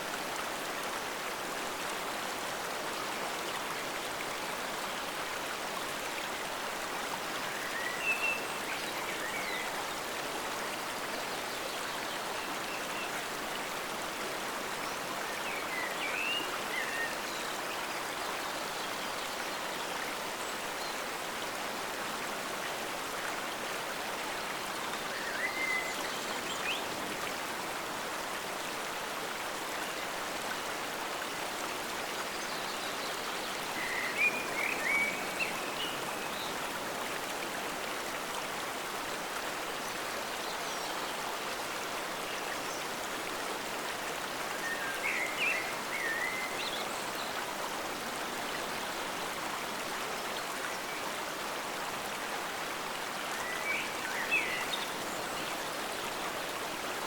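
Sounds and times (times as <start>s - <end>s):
forest stream flowing: 0.0s - 57.0s.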